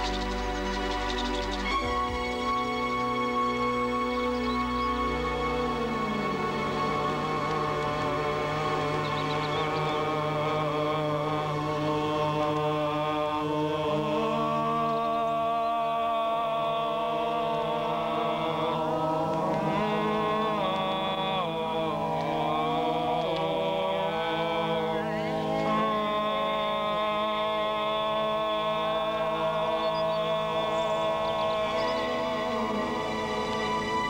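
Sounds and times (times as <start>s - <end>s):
group chanting long notes: 0.0s - 34.0s.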